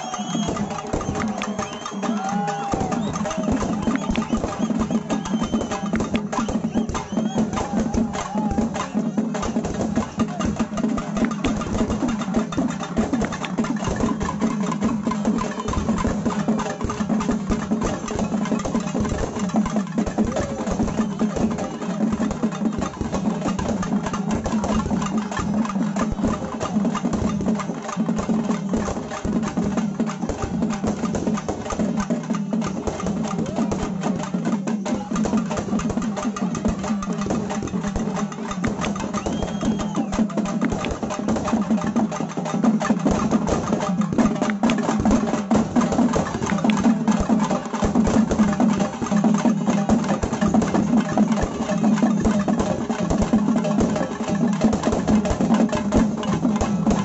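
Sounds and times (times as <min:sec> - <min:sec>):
drums beating fast rhythm: 0:00.0 - 0:57.0.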